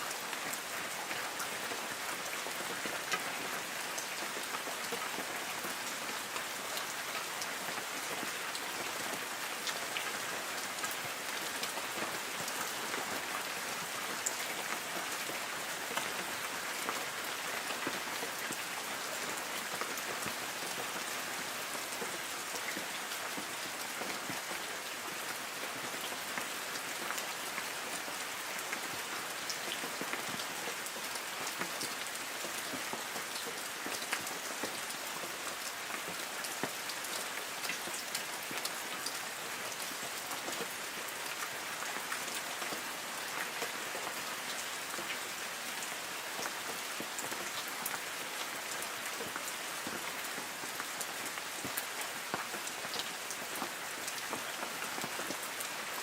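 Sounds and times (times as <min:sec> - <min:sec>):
light rain on trees: 0:00.0 - 0:56.0.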